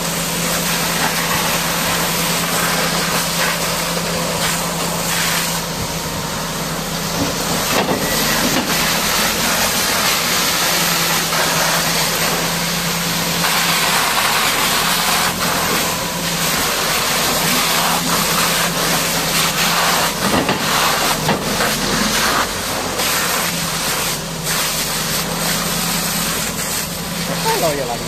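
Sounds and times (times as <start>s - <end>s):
high-pressure water jet hissing: 0.0s - 28.0s.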